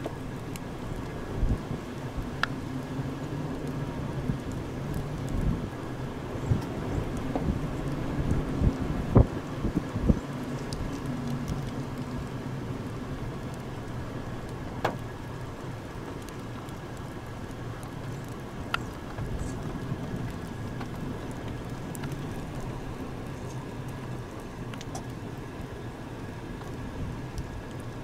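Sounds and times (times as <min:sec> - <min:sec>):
light rain: 0:00.0 - 0:28.0
raindrops ticking: 0:00.0 - 0:28.0.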